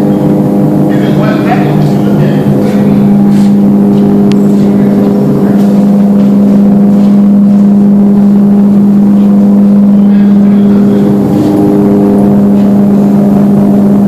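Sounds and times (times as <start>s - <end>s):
mechanical drone: 0.0s - 14.0s.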